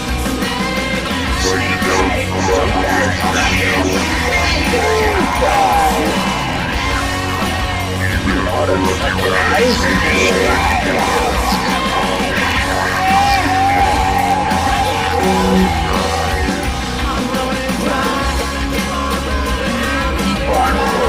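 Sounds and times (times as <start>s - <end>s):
rock band playing: 0.0s - 21.0s
singer wailing and yelling: 0.0s - 21.0s.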